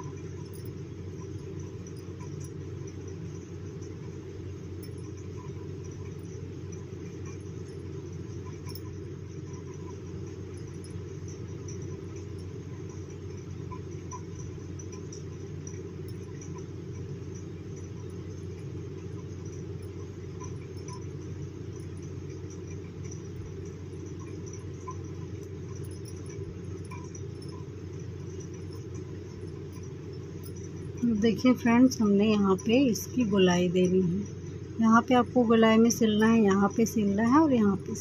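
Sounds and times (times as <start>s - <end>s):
faint ticks: 0.0s - 38.0s
low rumbling background noise: 0.0s - 38.0s.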